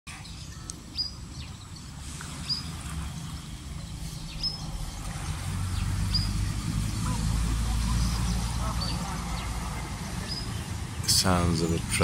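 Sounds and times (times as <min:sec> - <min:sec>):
low outdoor rumble: 0:00.1 - 0:12.0
small bird chirping: 0:00.2 - 0:10.8.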